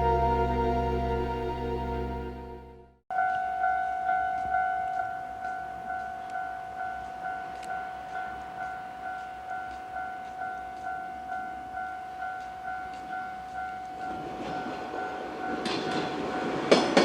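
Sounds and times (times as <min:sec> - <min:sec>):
level crossing warning bell: 0:03.1 - 0:17.0.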